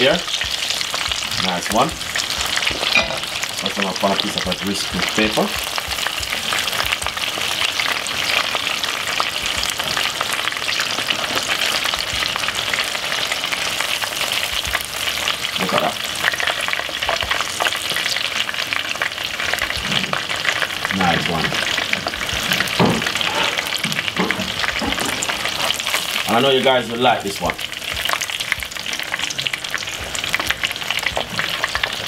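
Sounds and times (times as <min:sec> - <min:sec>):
chicken deep-frying in oil: 0:00.0 - 0:32.0.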